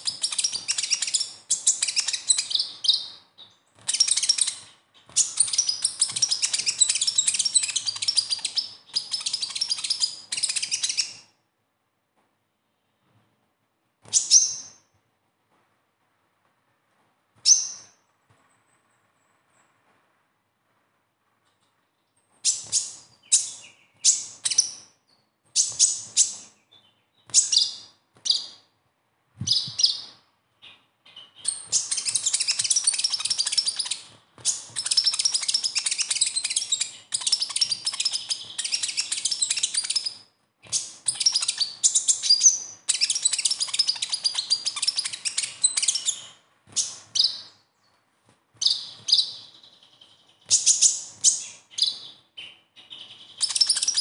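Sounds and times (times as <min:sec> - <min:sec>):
bird twittering song: 0:00.0 - 0:11.3, 0:14.1 - 0:14.9, 0:17.4 - 0:18.0, 0:22.0 - 0:28.6, 0:29.4 - 0:48.0, 0:48.6 - 0:54.0.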